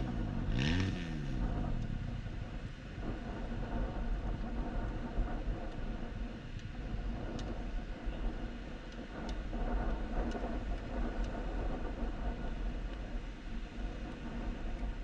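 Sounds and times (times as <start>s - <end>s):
motor vehicle running: 0.0s - 15.0s
faint ticks: 0.8s - 2.0s, 3.7s - 15.0s.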